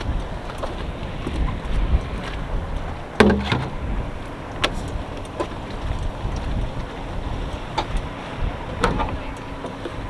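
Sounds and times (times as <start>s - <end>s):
water: 0.0s - 10.0s
wind rumble: 0.0s - 10.0s.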